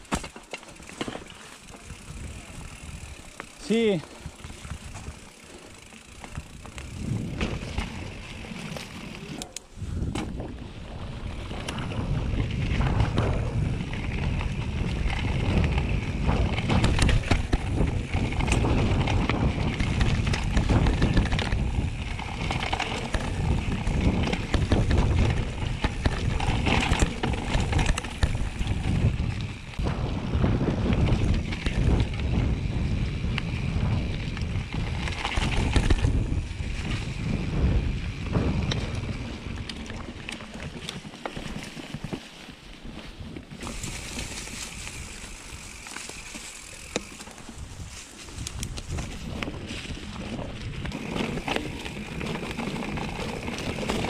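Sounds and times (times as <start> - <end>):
bicycle rattling on rough trail: 0.0 - 54.0
wind buffeting microphone: 1.7 - 41.0, 43.0 - 54.0.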